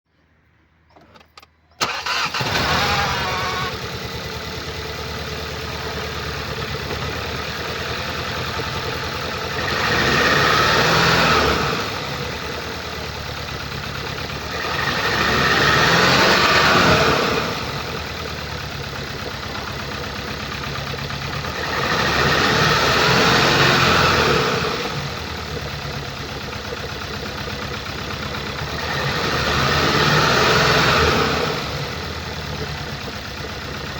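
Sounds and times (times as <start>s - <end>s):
car engine starting and revving: 1.0s - 33.9s.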